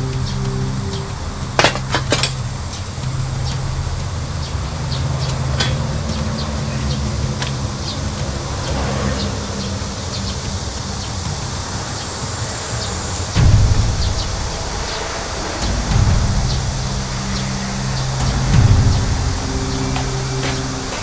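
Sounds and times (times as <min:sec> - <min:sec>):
low buzzing hum: 0:00.0 - 0:21.0.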